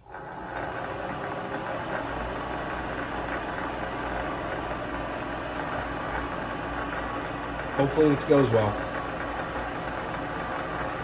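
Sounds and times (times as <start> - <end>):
lathe motor humming and whining: 0.0 - 11.0.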